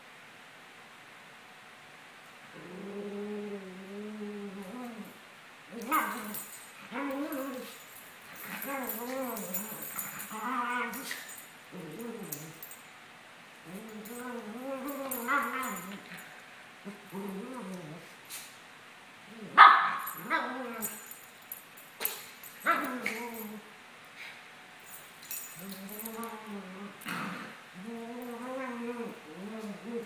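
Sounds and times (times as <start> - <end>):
dogs play growling: 2.5 - 12.9, 13.6 - 18.6, 19.2 - 21.3, 22.0 - 30.0.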